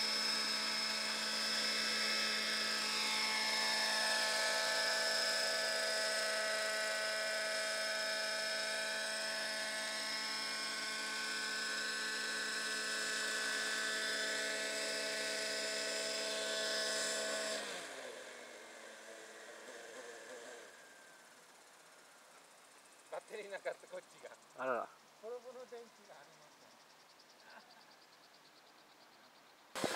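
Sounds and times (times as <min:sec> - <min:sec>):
model helicopter motor whining: 0:00.0 - 0:26.8.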